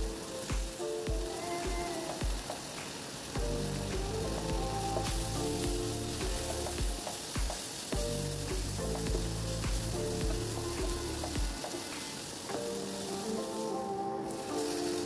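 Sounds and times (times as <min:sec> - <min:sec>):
background music: 0:00.0 - 0:15.0
vegetables sizzling in a pan: 0:00.0 - 0:15.0.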